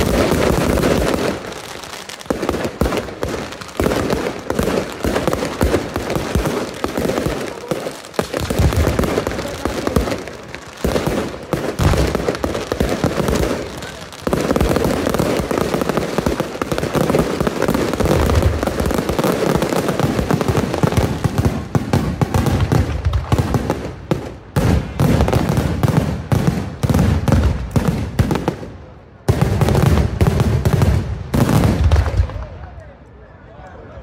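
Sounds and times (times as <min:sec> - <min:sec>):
fireworks bangs: 0:00.0 - 0:32.8.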